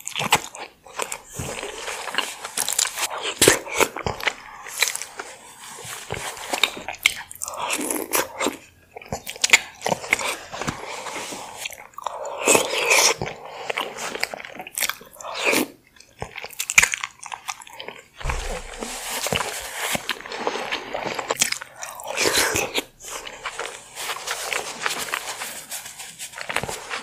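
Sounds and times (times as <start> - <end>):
biting and chewing food: 0.0 - 27.0.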